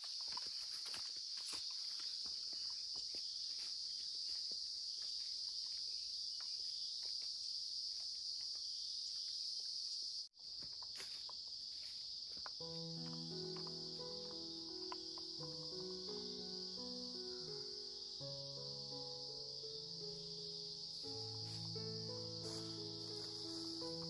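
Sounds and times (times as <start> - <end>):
forest insects chorus: 0.0 - 24.0.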